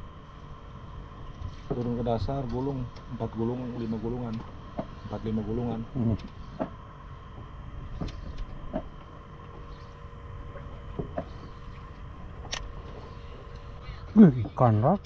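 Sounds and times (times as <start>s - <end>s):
faint steady hum: 0.0s - 15.0s
fishing boat engine rumble: 0.0s - 15.0s.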